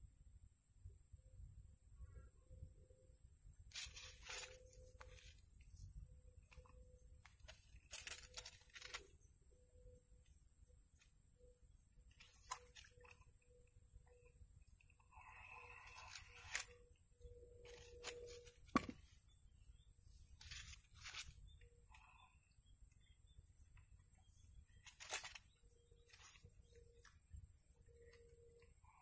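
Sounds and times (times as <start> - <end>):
insects chorus high-pitched: 0.0 - 29.0.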